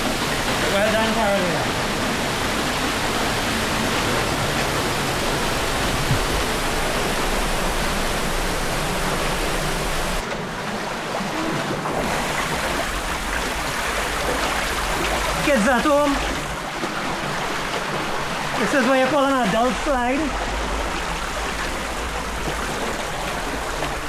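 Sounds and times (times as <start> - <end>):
waterfall rushing into pool: 0.0 - 24.0.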